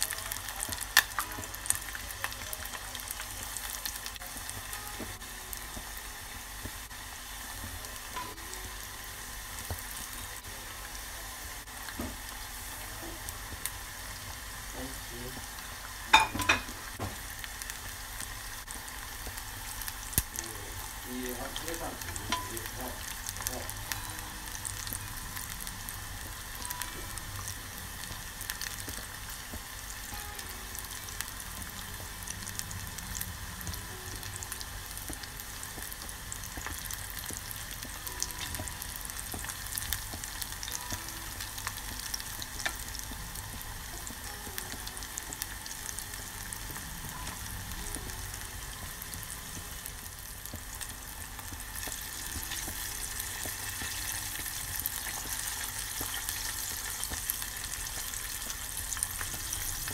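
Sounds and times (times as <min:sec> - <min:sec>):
food deep-frying in hot oil: 0:00.0 - 0:59.9.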